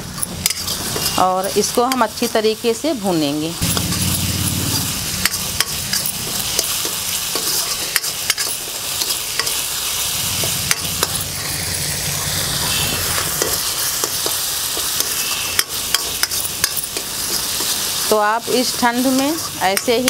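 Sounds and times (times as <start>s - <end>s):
spices sizzling in oil: 0.0s - 20.0s
metal spatula scraping pan: 0.4s - 2.4s, 3.6s - 20.0s.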